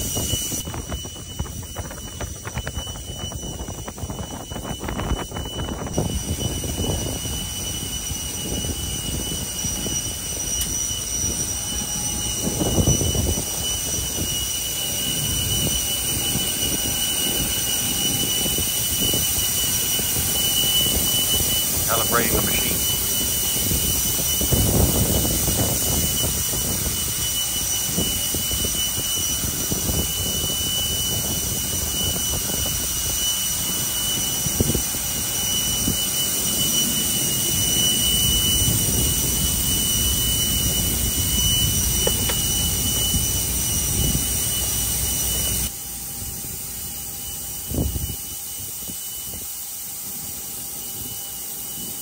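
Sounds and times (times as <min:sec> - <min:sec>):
jet turbine roar and whine: 0:00.0 - 0:52.0.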